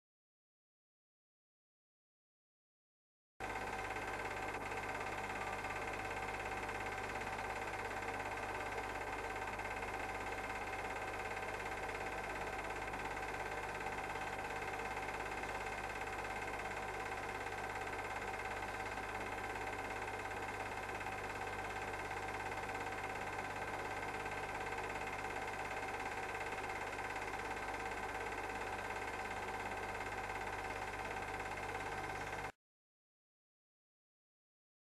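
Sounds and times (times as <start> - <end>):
film projector whirring: 3.4 - 32.6.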